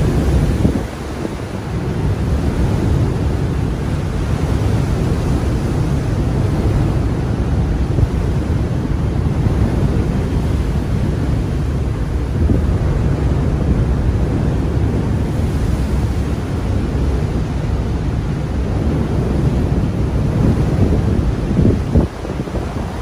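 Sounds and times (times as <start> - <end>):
rough sea waves rushing: 0.0 - 23.0
wind buffeting microphone: 0.0 - 23.0.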